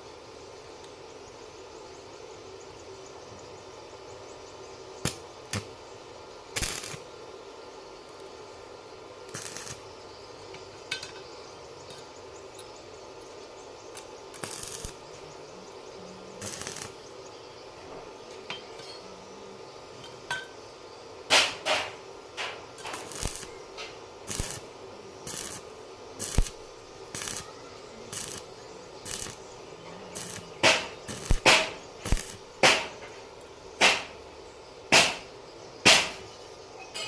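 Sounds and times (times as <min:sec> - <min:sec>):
steady hum: 0:00.0 - 0:36.8.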